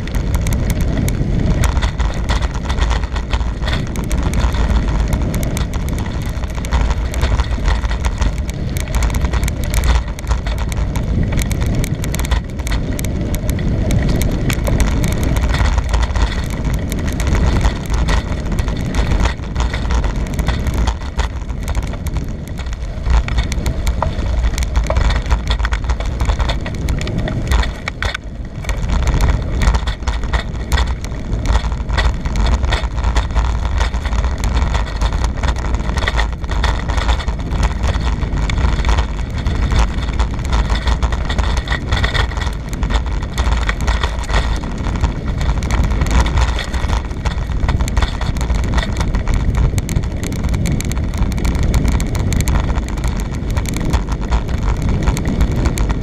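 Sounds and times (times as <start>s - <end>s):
bicycle rattling and clattering: 0.0s - 56.0s
wind rushing over microphone: 0.0s - 56.0s.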